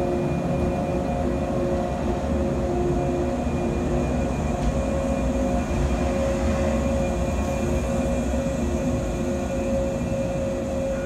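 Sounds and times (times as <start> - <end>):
humming tones from running gear: 0.0 - 11.0.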